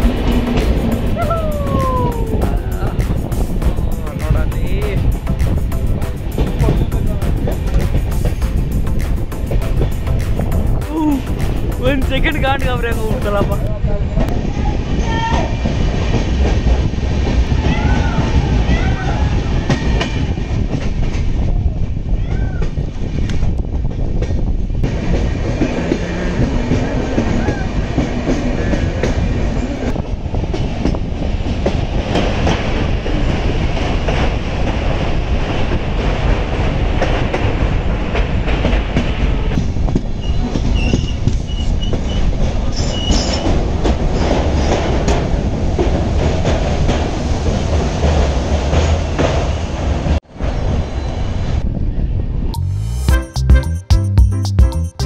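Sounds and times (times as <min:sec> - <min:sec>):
train wheels clattering on rails: 0:00.0 - 0:01.2, 0:02.7 - 0:13.7, 0:15.2 - 0:21.6, 0:22.3 - 0:50.2.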